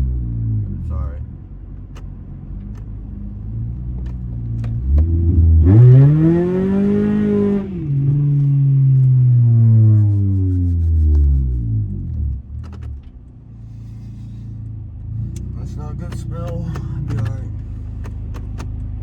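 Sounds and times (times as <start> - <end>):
car engine accelerating hard: 2.7 - 13.1, 14.0 - 19.0.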